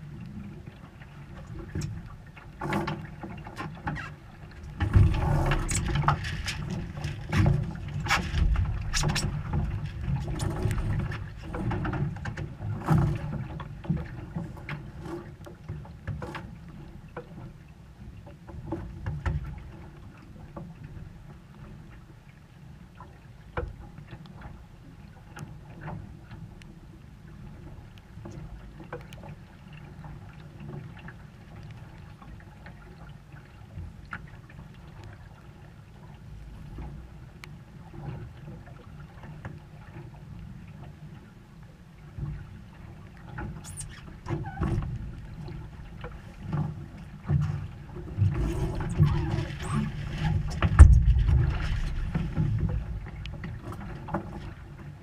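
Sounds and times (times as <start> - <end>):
rumble of wind and water: 0.0 - 55.0.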